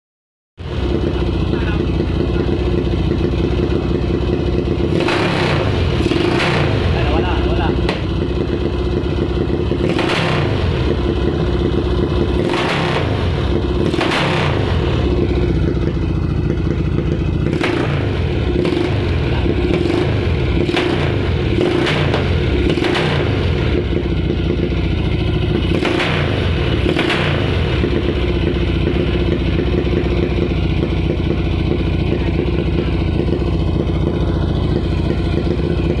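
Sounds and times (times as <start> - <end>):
motorcycle engine idling: 0.6 - 36.0
motorcycle engine revving: 0.6 - 36.0.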